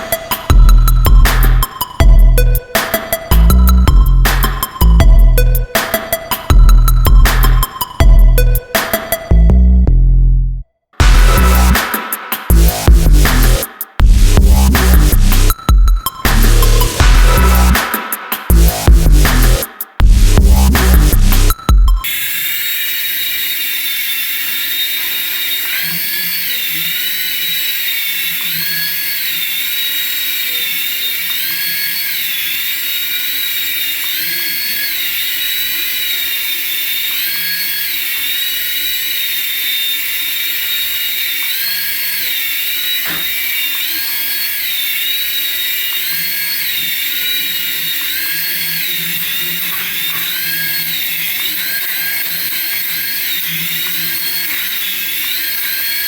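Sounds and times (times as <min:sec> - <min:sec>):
high-pitched toy motor whine: 0:00.0 - 0:09.4, 0:11.0 - 0:56.0.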